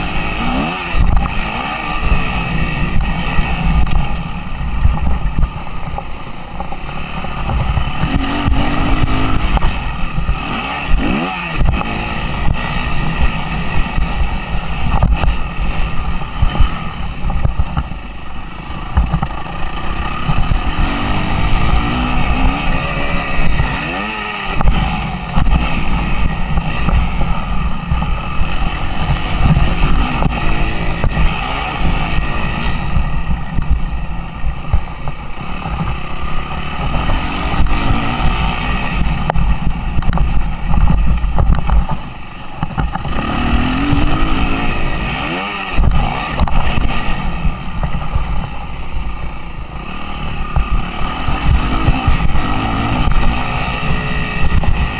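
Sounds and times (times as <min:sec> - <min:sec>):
motocross engine revving: 0:00.0 - 0:54.9
wind buffeting microphone: 0:00.0 - 0:54.9.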